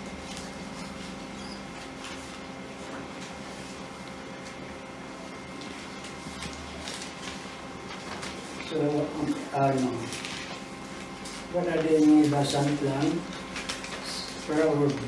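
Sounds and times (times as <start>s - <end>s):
paper rustling: 0.0s - 4.7s, 5.4s - 15.0s
electrical hum: 0.0s - 15.0s.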